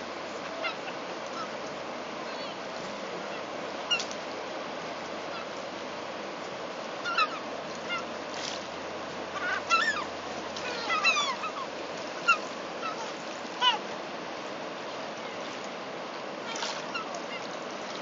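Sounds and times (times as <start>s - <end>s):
gulls calling: 0.0s - 4.2s, 5.2s - 5.7s, 6.9s - 14.0s, 14.8s - 18.0s
flowing river water: 0.0s - 18.0s.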